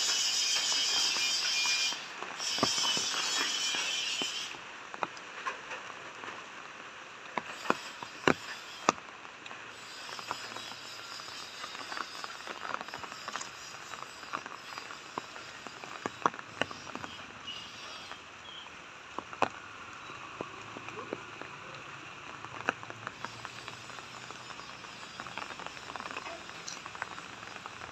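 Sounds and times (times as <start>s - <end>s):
rain hissing: 0.0s - 27.9s.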